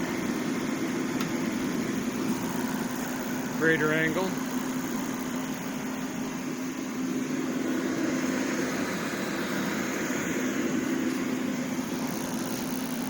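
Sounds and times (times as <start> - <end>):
heater fan and burner rush: 0.0 - 13.0.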